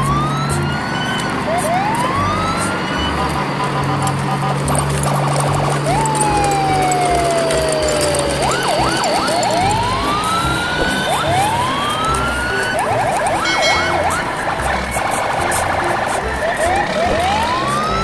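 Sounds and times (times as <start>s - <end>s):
electronic siren wailing and yelping: 0.0s - 18.0s
steady noisy background: 0.0s - 18.0s.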